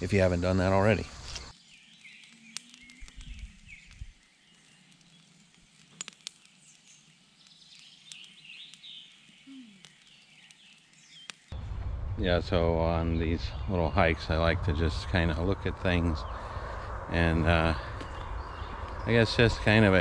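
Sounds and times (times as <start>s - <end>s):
small birds chirping: 0.0s - 11.6s, 12.3s - 20.0s.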